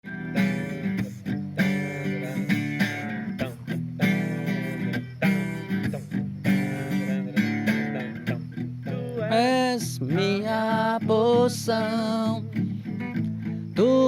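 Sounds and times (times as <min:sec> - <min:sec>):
man singing: 0:00.0 - 0:13.2, 0:13.8 - 0:14.0
acoustic guitar strumming: 0:00.0 - 0:14.0.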